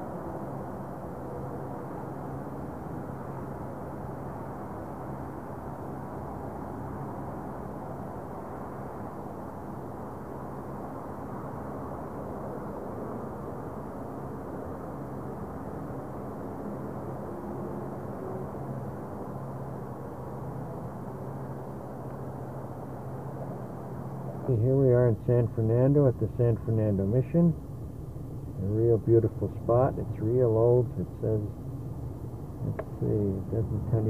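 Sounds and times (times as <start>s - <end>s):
distant freeway traffic roar: 0.0s - 34.0s
faint steady hum: 0.0s - 34.0s.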